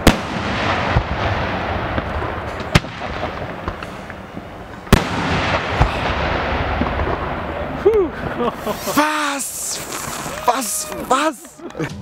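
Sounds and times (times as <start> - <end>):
fireworks bangs: 0.0 - 11.6
small fireworks pops: 0.0 - 11.8.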